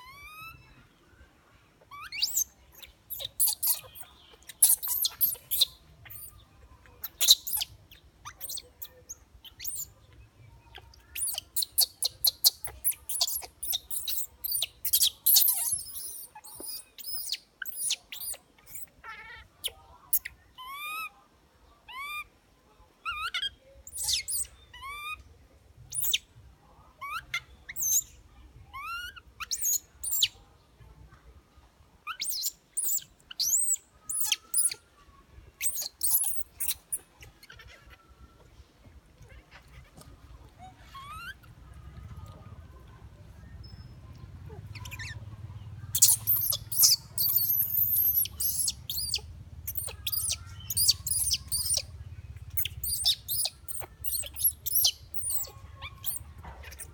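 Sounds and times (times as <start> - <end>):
infant monkey squeaking and calling: 0.0 - 0.9, 1.8 - 21.2, 21.8 - 22.4, 23.0 - 30.4, 32.0 - 34.9, 35.6 - 38.6, 39.2 - 56.9.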